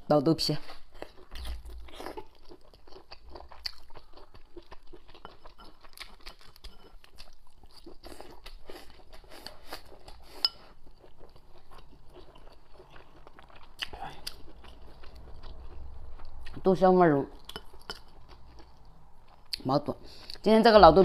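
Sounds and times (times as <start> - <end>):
wet chewing and smacking: 0.8 - 20.4.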